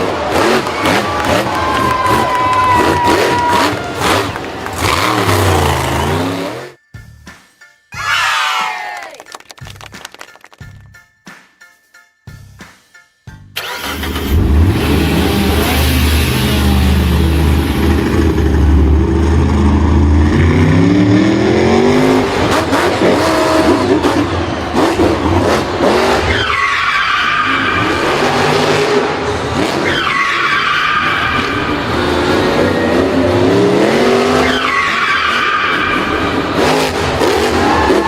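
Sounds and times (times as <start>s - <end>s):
tyres skidding and squealing: 0.0s - 6.8s, 13.6s - 38.0s
vehicle engines revving: 0.0s - 6.8s, 13.6s - 38.0s.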